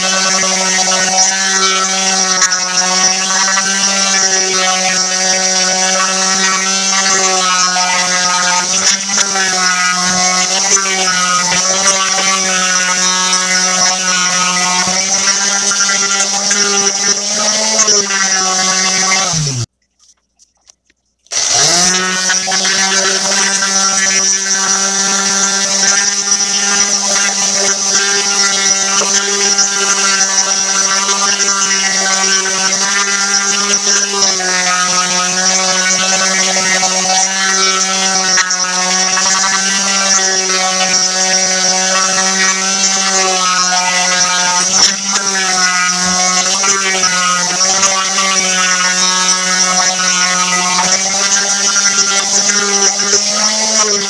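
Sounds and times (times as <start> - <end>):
orbital sander on metal: 0.0 - 19.7, 21.3 - 54.0.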